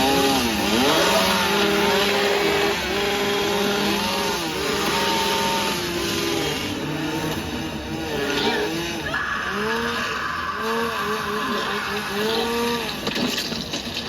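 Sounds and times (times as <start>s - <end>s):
chainsaw engine revving: 0.0s - 13.5s.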